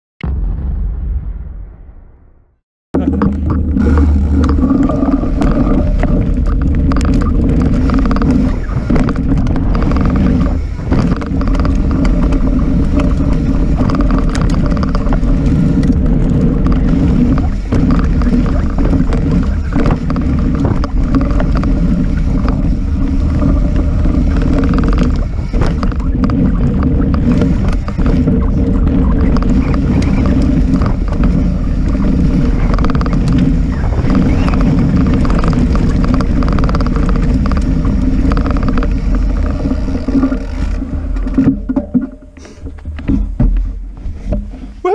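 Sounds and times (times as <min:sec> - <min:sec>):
bike knocks and rattles: 0:03.0 - 0:44.9
bike tyres on gravel: 0:03.0 - 0:44.9
wind rumble on microphone: 0:03.0 - 0:44.9.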